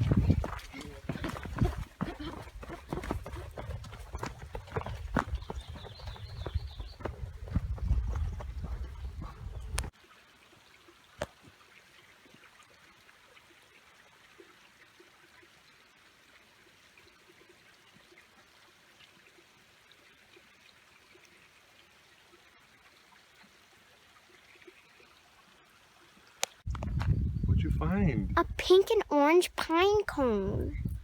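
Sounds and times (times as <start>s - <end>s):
stream trickling over rocks: 0.0s - 27.2s.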